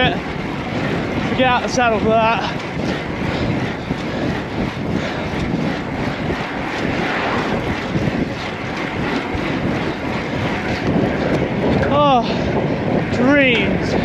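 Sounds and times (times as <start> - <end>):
wind rushing on microphone: 0.0 - 14.0.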